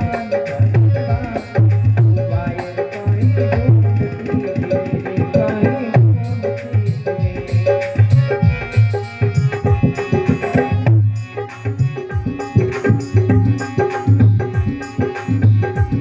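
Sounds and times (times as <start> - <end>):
drum rhythm with deep bass: 0.0 - 16.0
repeating instrumental melody: 0.0 - 16.0.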